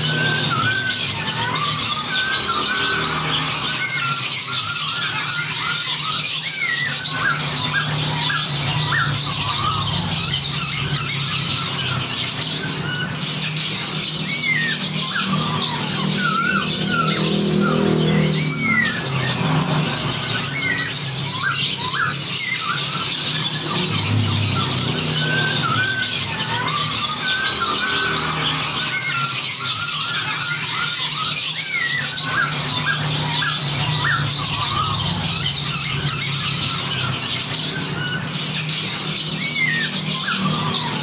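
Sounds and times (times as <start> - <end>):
songbirds chorus: 0.0 - 41.0.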